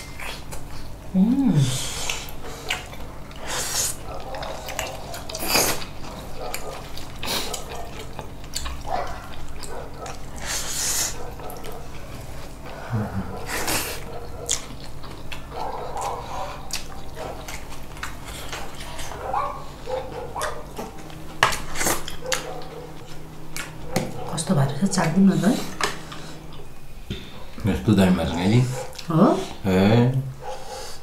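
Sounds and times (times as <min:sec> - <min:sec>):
wet chewing: 0:01.9 - 0:27.6, 0:28.6 - 0:29.1.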